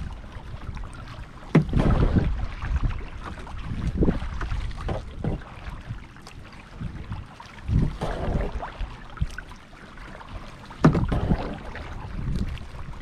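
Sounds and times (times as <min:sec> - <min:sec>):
wind rumble on microphone: 0:00.0 - 0:09.5, 0:10.3 - 0:13.0
paddle strokes splashing water: 0:00.0 - 0:13.0.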